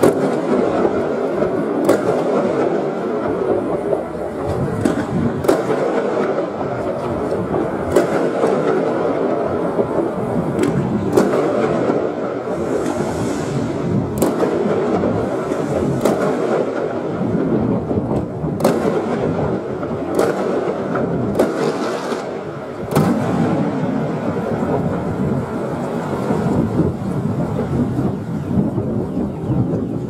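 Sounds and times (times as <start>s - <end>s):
sharp firework cracks: 0.0s - 29.0s
slowed fireworks rumble: 0.0s - 30.0s.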